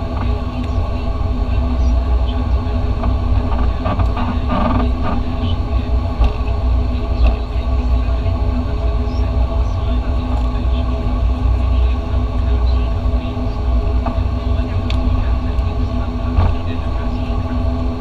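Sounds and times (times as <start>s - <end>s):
propeller plane engines droning: 0.0s - 18.0s.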